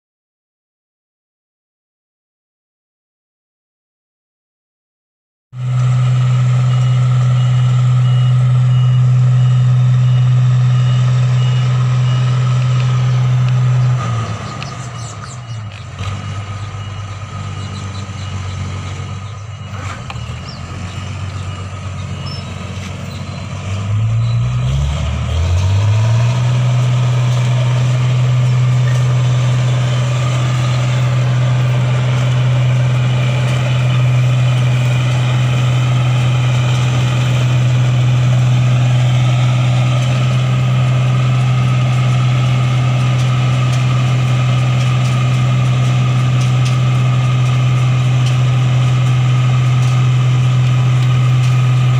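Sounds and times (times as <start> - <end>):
combine harvester engine droning: 5.6 - 51.9.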